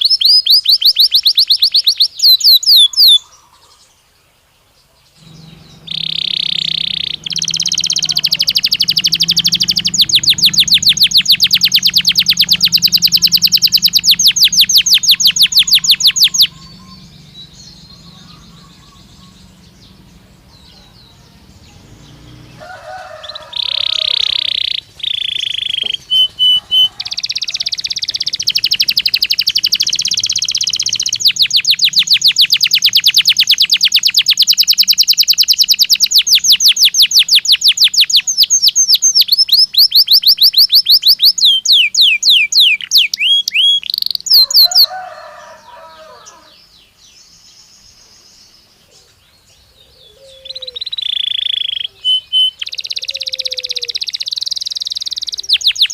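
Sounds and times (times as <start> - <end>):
canary singing: 0.0 - 3.9, 5.2 - 47.2, 48.8 - 55.9.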